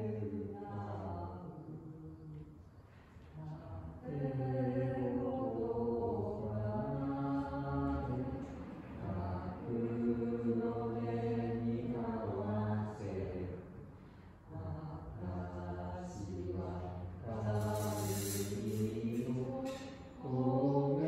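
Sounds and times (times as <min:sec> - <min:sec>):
low voices chanting: 0:00.0 - 0:21.0.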